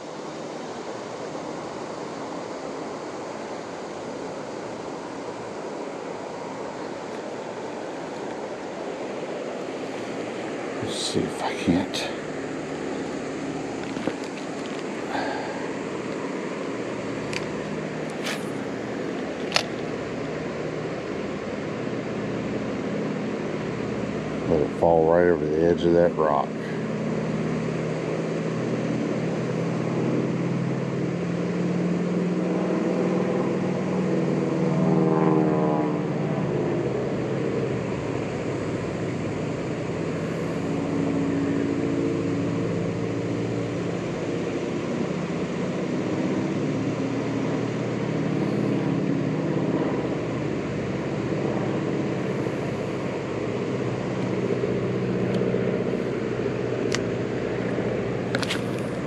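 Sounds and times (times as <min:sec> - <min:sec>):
constant rushing noise: 0:00.0 - 0:59.0
engine drone: 0:00.0 - 0:59.0.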